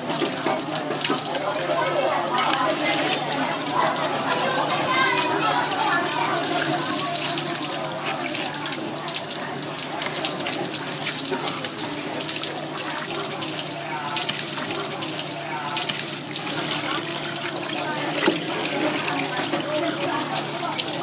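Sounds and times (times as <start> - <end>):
tap water running and splashing: 0.0 - 21.0.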